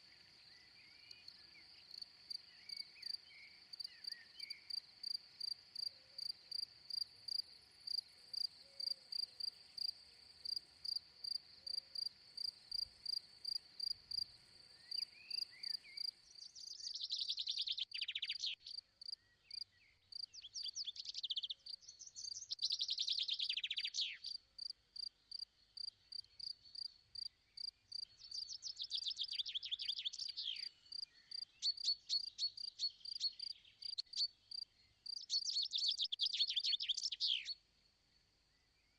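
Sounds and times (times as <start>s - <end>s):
crickets chirping: 0.0s - 37.4s.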